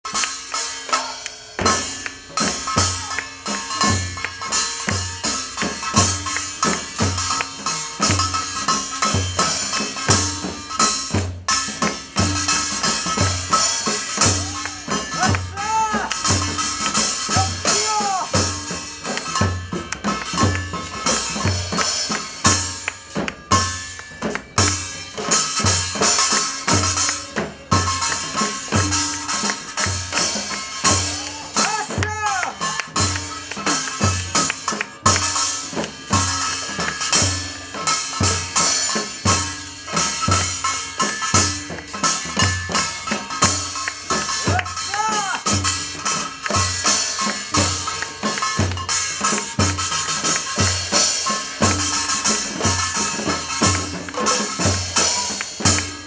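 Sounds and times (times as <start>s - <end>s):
drum kit playing a steady beat: 0.0s - 56.0s.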